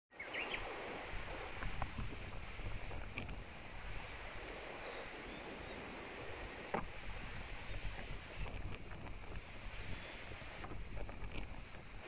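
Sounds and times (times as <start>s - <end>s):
rushing river water: 0.2s - 12.0s
wind buffeting microphone: 0.3s - 12.0s.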